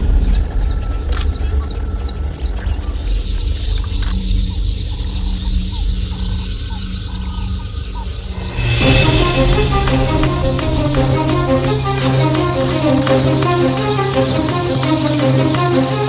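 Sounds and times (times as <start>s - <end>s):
low pulsing bird call: 0.0s - 16.0s
many birds chirping: 0.0s - 16.0s.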